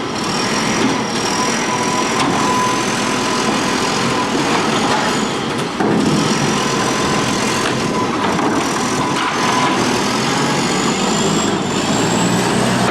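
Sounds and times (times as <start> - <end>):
garbage truck engine revving: 0.0 - 12.9.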